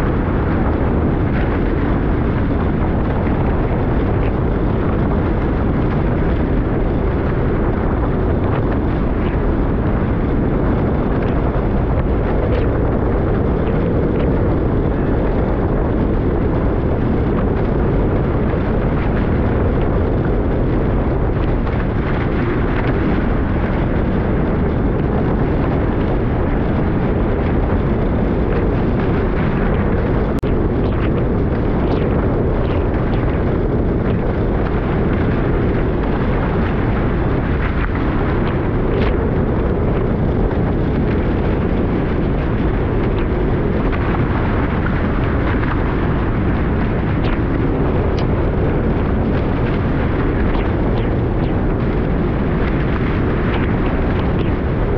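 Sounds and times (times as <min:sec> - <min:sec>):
boat rushing through water: 0:00.0 - 0:54.9
wind buffeting microphone: 0:00.0 - 0:54.9.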